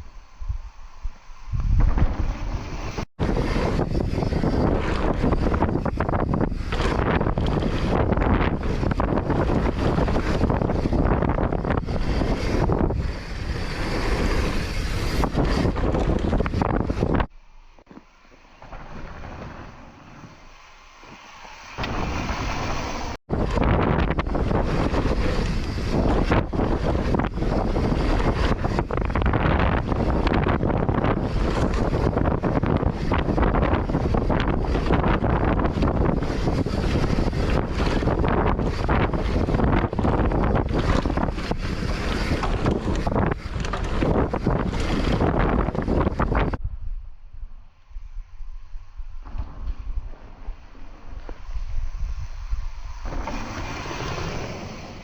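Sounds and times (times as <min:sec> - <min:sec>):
wind buffeting microphone: 0:00.0 - 0:55.0
bike rattling over rough ground: 0:01.6 - 0:17.3, 0:18.0 - 0:46.6.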